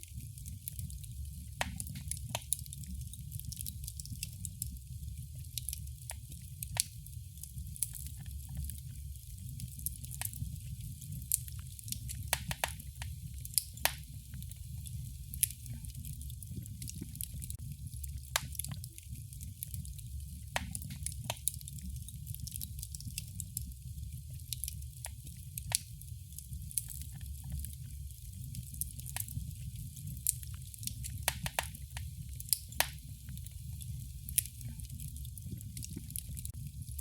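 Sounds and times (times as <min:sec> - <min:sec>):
fire pops and snaps: 0:00.0 - 0:37.0
wood fire rumbling and hissing: 0:00.0 - 0:37.0.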